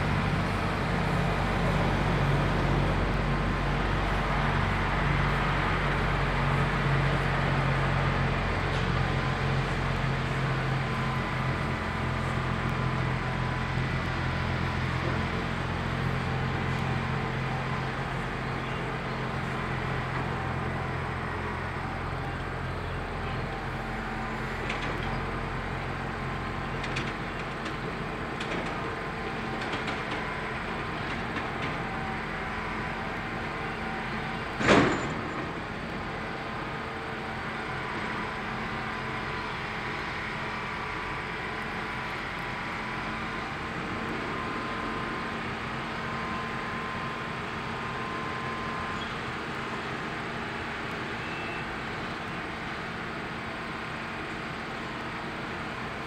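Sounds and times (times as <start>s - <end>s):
diesel truck engine hum: 0.0s - 56.0s.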